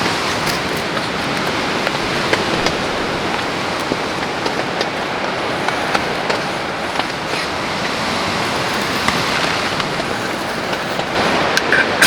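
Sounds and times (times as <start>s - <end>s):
heavy rain rushing: 0.0s - 12.0s.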